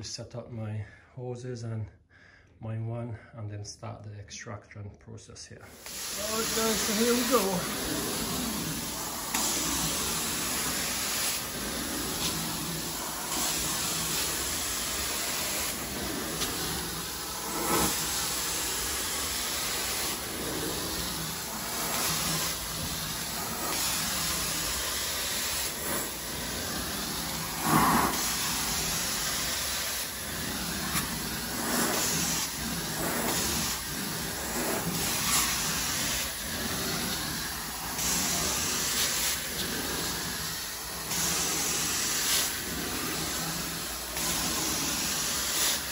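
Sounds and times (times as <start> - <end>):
carpet extraction wand hissing: 5.7 - 45.9.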